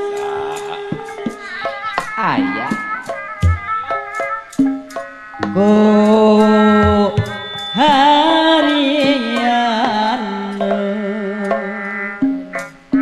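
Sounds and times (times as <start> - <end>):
background music: 0.0 - 13.0
drum strokes: 0.0 - 13.0.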